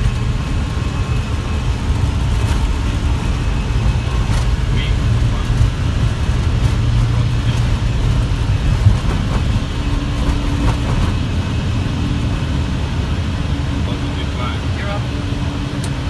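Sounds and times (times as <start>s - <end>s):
jet engines low rumble: 0.0s - 16.0s
steady hum: 0.0s - 16.0s.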